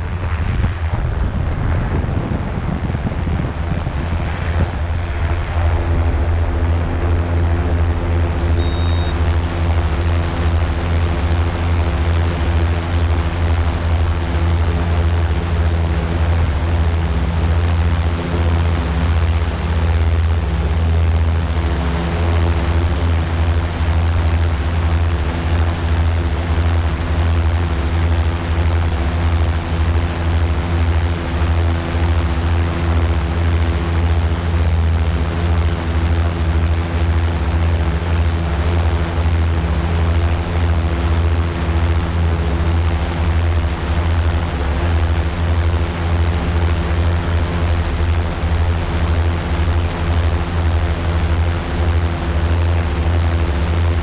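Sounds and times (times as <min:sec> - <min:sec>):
drone motors humming: 0:03.5 - 0:54.0.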